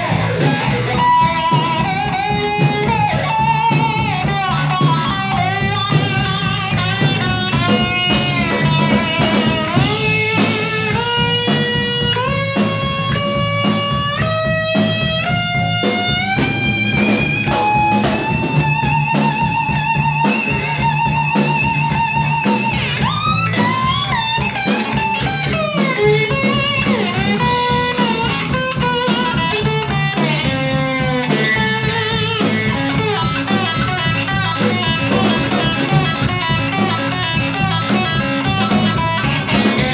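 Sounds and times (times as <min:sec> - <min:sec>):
bass guitar: 0:00.0 - 0:39.9
electric slide guitar solo: 0:00.0 - 0:39.9
steady drum beat: 0:00.0 - 0:39.9.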